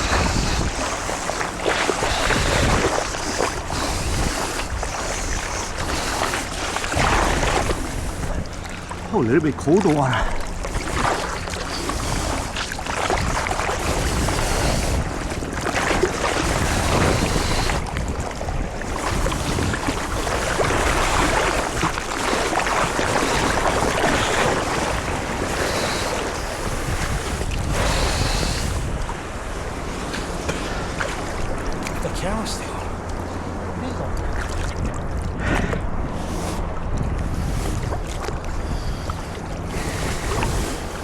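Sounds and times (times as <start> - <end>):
sea water splashing: 0.0 - 41.0
wind buffeting microphone: 0.0 - 41.0.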